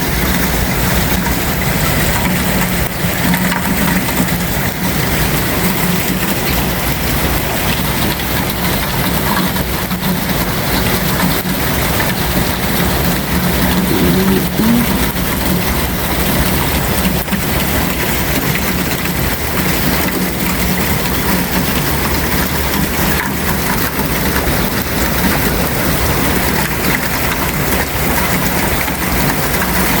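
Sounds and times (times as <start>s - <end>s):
rain pouring: 0.0s - 30.0s.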